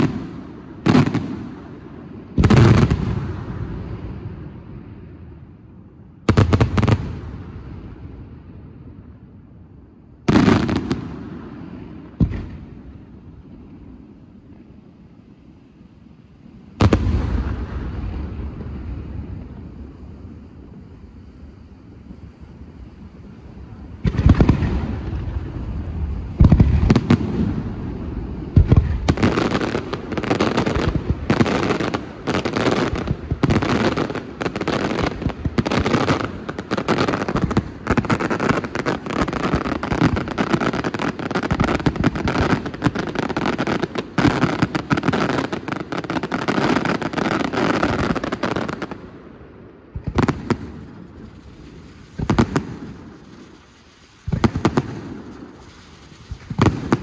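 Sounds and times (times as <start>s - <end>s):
fireworks bangs: 0.0s - 5.6s, 6.2s - 8.4s, 10.2s - 14.7s, 16.5s - 57.0s.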